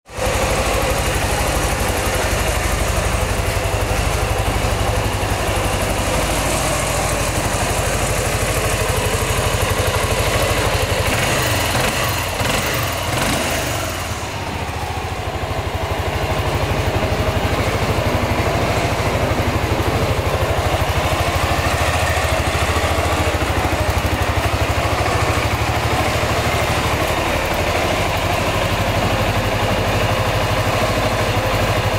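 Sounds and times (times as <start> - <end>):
scooter engine idling: 0.0 - 31.9.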